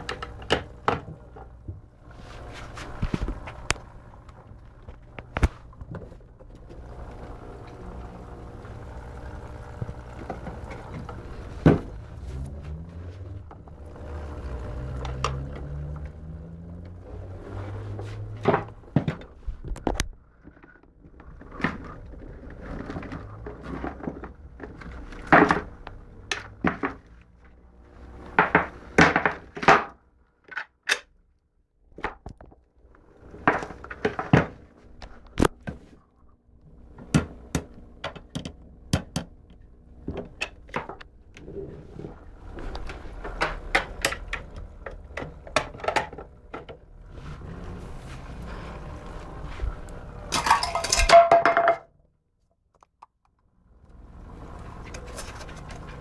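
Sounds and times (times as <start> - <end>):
low steady hum: 0.0 - 30.5, 31.1 - 52.7, 53.4 - 56.0.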